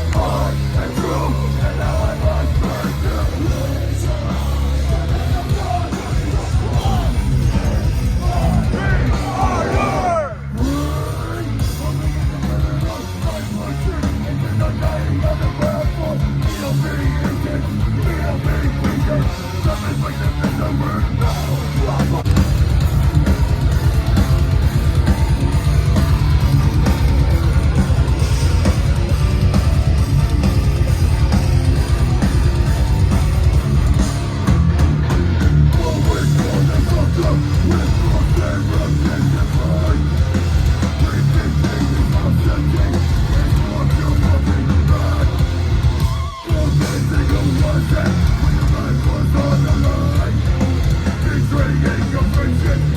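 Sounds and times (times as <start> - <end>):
bass guitar: 0.0 - 52.9
distorted electric guitars: 0.0 - 52.9
drums: 0.0 - 52.9.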